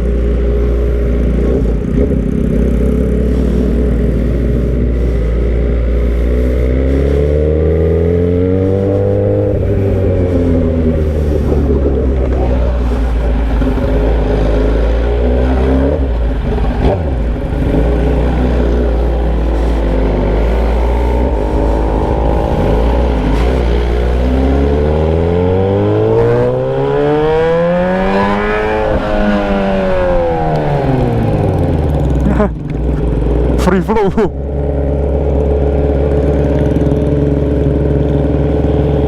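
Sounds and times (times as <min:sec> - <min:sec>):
motorcycle engine without muffler: 0:00.0 - 0:39.0.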